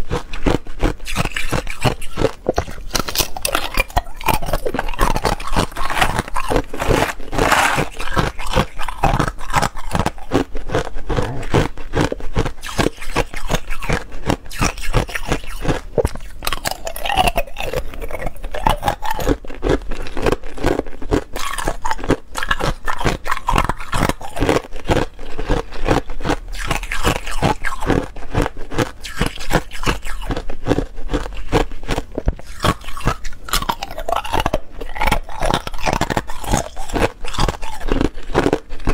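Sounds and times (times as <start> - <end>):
ice cubes crunching: 0.0 - 38.9.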